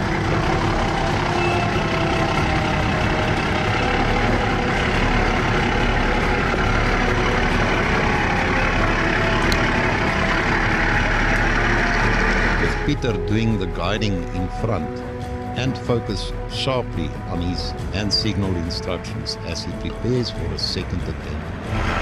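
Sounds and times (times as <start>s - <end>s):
off-road vehicle engine running: 0.0s - 22.0s.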